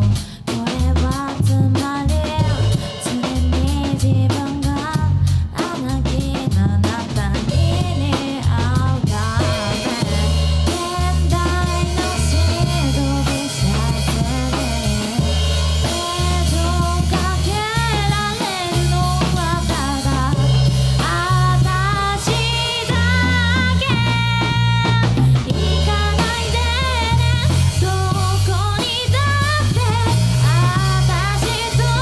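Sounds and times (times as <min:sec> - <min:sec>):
drum kit: 0:00.0 - 0:32.0
electric bass: 0:00.0 - 0:32.0
person singing with vibrato: 0:00.0 - 0:32.0.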